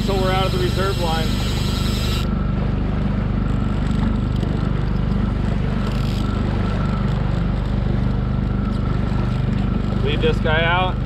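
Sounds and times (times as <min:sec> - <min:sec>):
outboard motor droning: 0:00.0 - 0:11.0.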